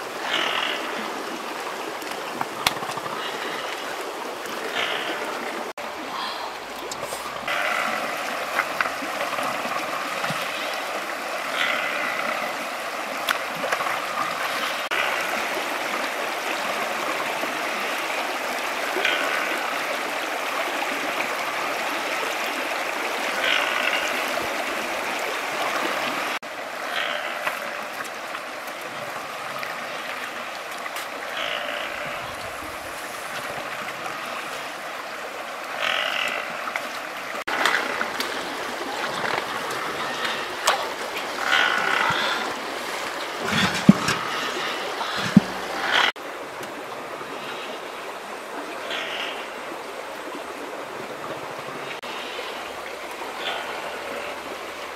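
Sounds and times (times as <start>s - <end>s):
river water running over stones: 0.0s - 54.9s.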